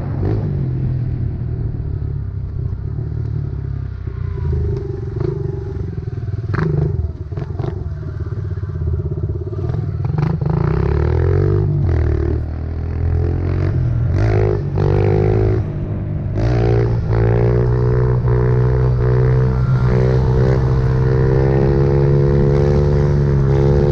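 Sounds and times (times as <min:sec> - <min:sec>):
pit bike engine accelerating: 0:02.7 - 0:23.9.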